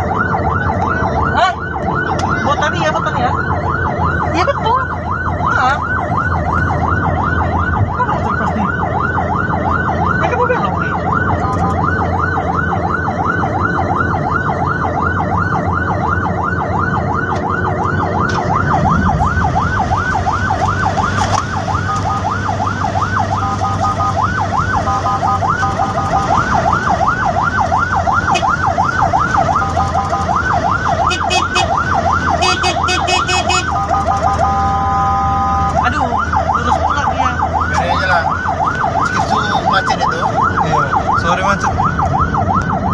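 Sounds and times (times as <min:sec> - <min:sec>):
engine and road noise: 0:00.0 - 0:42.9
siren yelping: 0:00.0 - 0:42.9.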